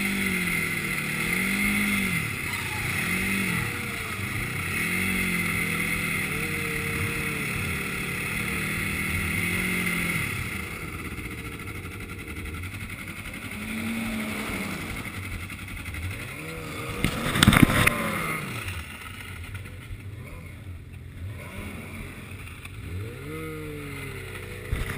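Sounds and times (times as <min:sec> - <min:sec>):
snowmobile engine running: 0:00.0 - 0:24.9.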